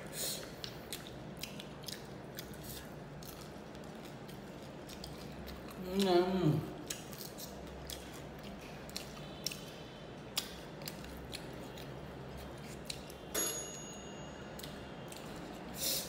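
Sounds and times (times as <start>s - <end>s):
crunchy chewing: 0.3s - 13.3s, 14.5s - 16.0s.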